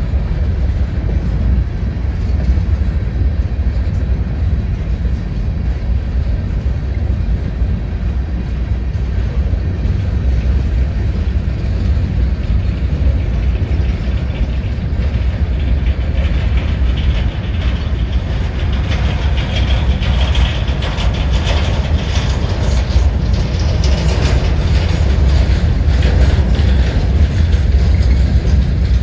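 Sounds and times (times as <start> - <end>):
diesel locomotive engine drone: 0.0 - 29.0
wheels rattling on rails: 0.0 - 29.0.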